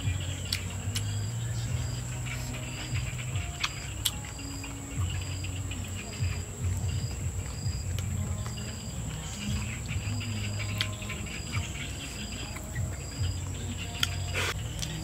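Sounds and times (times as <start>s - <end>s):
insect chirp: 0.0s - 15.0s
insect high-pitched trill: 0.0s - 15.0s.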